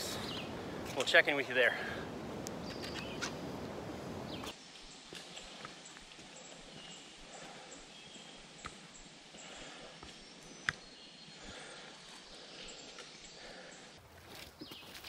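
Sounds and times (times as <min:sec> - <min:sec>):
footsteps on forest trail: 0:00.0 - 0:15.0.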